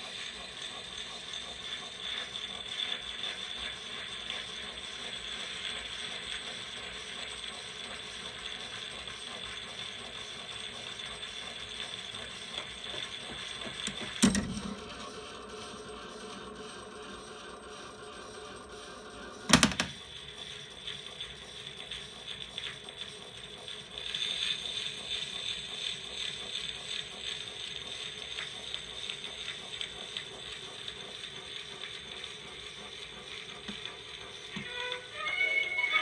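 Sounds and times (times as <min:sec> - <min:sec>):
phonograph motor ticking: 0:00.0 - 0:36.0.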